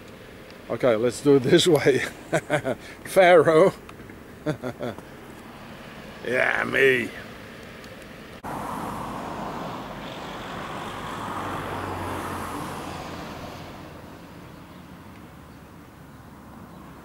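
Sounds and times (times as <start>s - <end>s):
road vehicle passing by: 0.0s - 17.0s.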